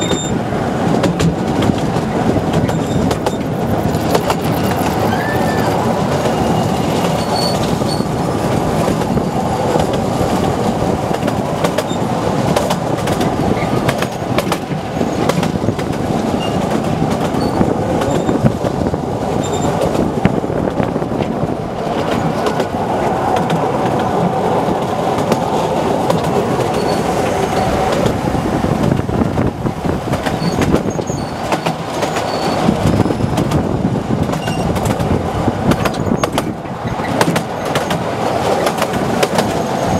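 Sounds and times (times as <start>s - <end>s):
train wheels rumbling and rattling: 0.0s - 39.9s
wheels clicking over rail joints: 0.0s - 39.9s.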